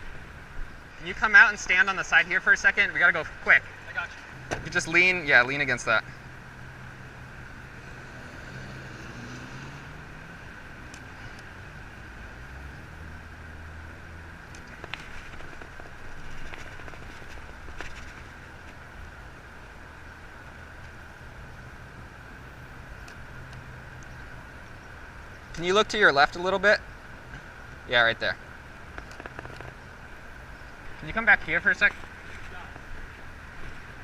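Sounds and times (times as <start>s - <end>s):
street traffic hum: 0.0s - 34.0s.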